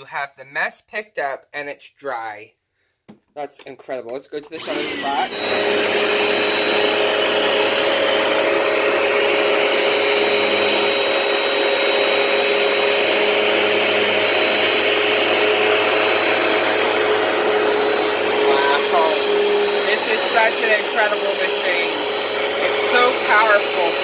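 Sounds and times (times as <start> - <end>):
carpet cleaner motor hum: 4.6 - 24.0
high motor whine: 4.6 - 24.0.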